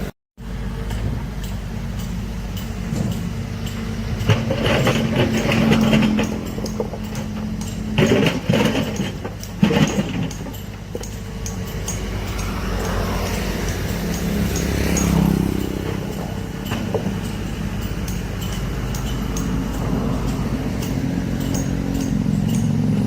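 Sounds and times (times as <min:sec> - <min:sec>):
excavator engine running: 0:00.0 - 0:23.0
rattling knocks: 0:01.4 - 0:23.0.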